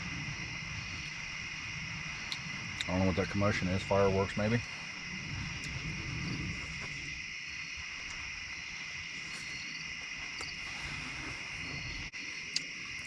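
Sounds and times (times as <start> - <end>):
faint low rumble: 0.0 - 13.0
insects chorus: 0.0 - 13.0.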